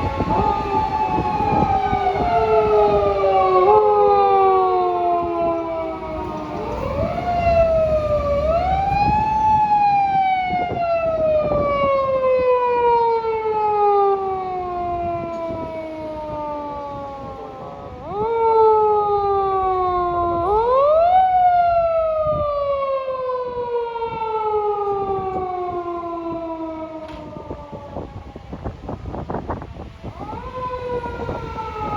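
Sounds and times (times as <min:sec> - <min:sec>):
emergency vehicle siren wailing: 0:00.0 - 0:31.9
road and engine rumble: 0:00.0 - 0:31.9.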